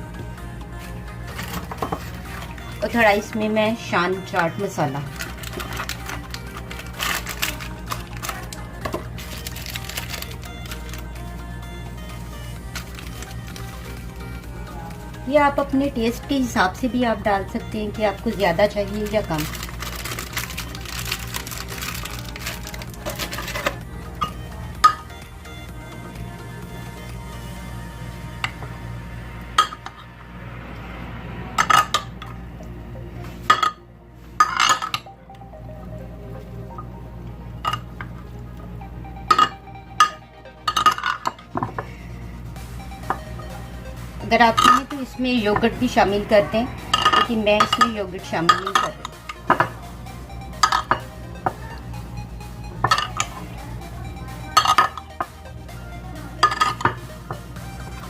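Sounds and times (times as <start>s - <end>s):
background music: 0.0s - 58.0s.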